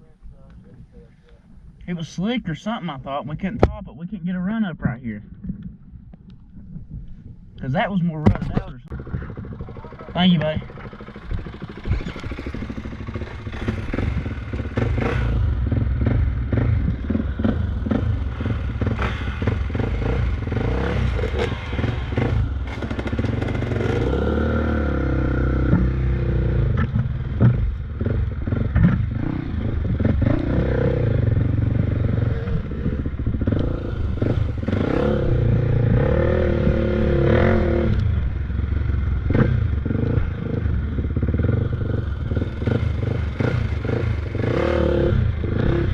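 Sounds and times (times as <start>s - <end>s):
motorcycle engine revving: 7.8s - 45.9s.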